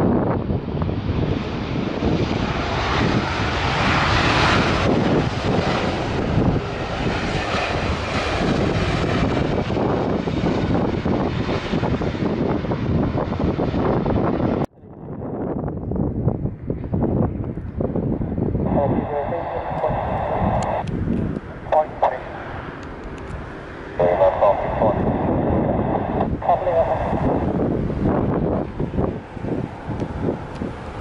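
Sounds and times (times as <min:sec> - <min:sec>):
jet engines roaring past: 0:00.0 - 0:31.0.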